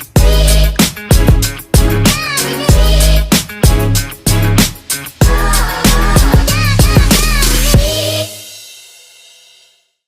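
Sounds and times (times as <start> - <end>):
heavy bass: 0.0 - 8.2
funk drums: 0.0 - 8.7.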